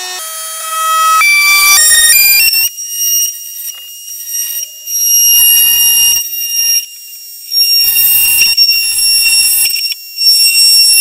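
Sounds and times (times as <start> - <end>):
oscillating multi-tool cutting plywood: 0.0 - 11.0.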